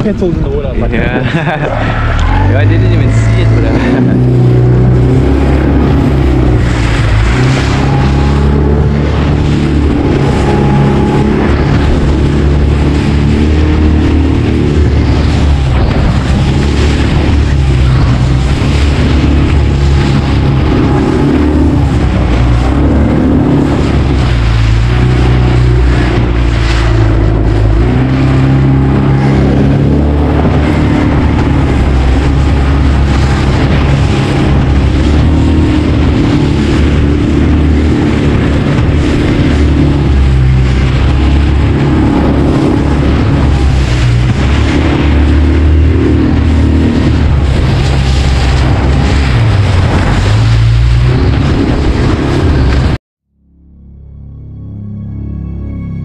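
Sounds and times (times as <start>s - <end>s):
wind buffeting microphone: 0.0s - 53.0s
boat motor running: 0.0s - 56.0s.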